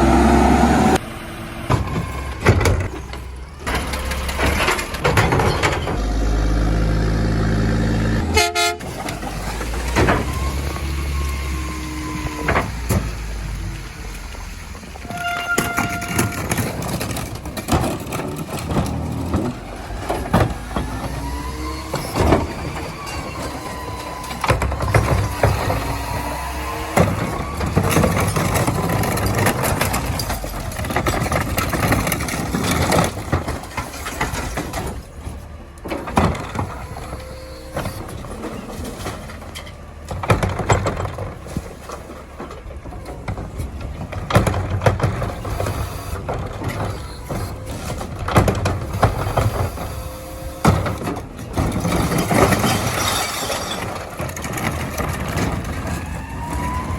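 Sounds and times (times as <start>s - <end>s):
hydraulic packer whining: 0.0s - 56.9s
truck engine running: 0.0s - 56.9s
clanks and knocks from load: 1.7s - 6.3s, 8.8s - 10.8s, 11.6s - 13.6s, 15.0s - 56.9s.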